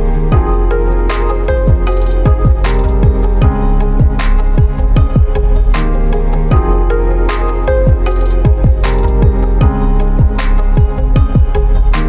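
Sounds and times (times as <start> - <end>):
electronic beat music: 0.0 - 12.0
deep kick drums: 0.3 - 0.8, 1.5 - 7.0, 7.7 - 12.0.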